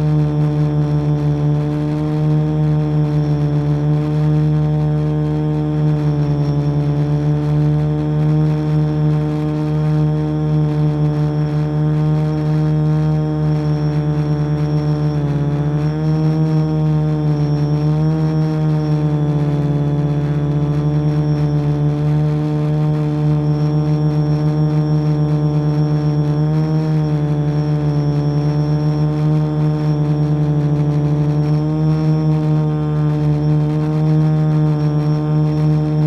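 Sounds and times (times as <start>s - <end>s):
drone motors humming: 0.0s - 36.0s.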